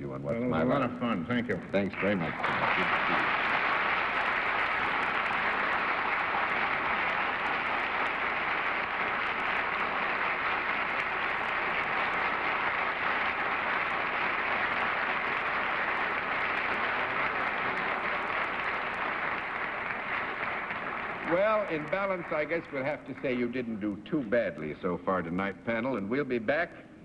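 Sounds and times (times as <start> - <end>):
studio audience applauding: 1.9 - 23.9.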